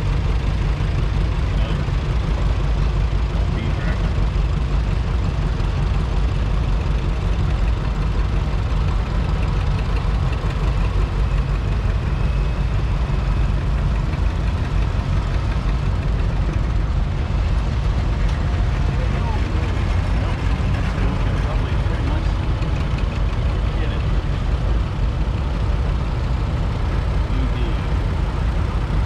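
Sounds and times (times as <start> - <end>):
tractor engines rumbling: 0.0 - 29.0.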